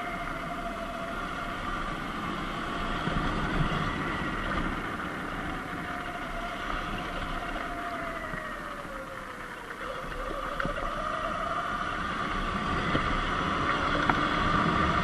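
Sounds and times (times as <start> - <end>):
electric motor whine: 0.0 - 15.0
wind: 0.0 - 15.0.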